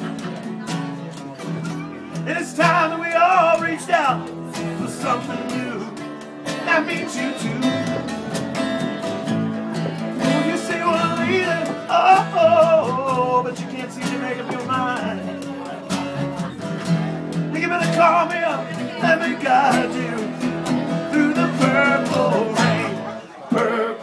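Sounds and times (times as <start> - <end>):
acoustic guitar strumming: 0.0 - 24.0
mandolin: 0.0 - 24.0
upright bass: 0.0 - 24.0.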